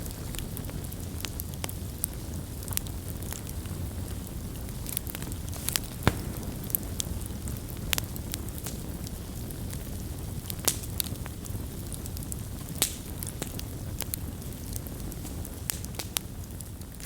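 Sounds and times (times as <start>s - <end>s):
campfire burning: 0.0s - 17.0s
wood popping and crackling: 0.0s - 17.0s.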